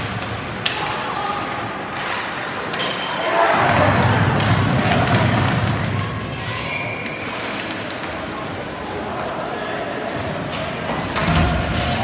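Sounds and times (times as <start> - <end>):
hockey sticks and puck clacking: 0.0 - 6.2, 7.0 - 9.4, 10.3 - 12.0.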